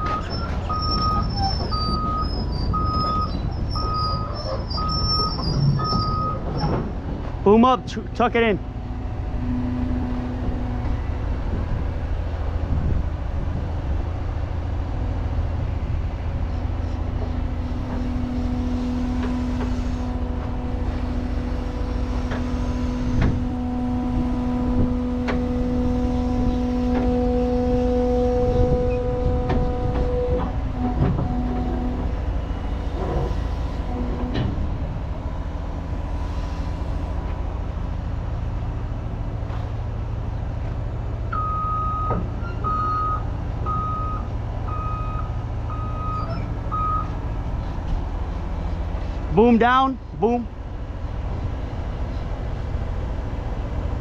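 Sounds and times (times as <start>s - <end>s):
hydraulic whine: 0.0s - 49.4s
excavator diesel engine running: 0.0s - 54.0s.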